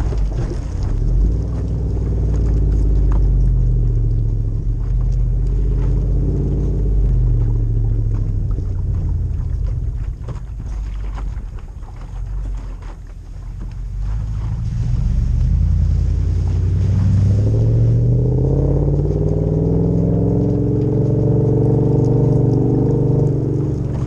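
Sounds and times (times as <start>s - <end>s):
car engine revving: 0.0s - 12.8s, 13.6s - 24.0s.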